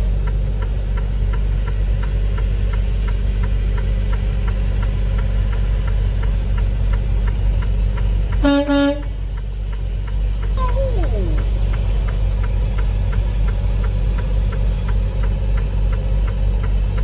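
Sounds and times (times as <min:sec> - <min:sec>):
truck diesel engine rumbling: 0:00.0 - 0:17.0
indicator flasher ticking: 0:00.2 - 0:17.0.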